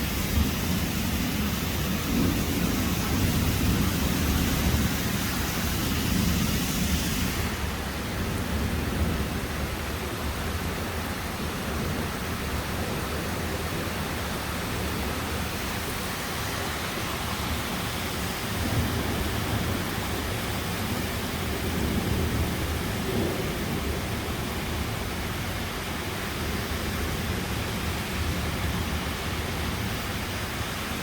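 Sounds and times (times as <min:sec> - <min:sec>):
heavy rain: 0:00.0 - 0:31.0
strong wind: 0:00.0 - 0:31.0.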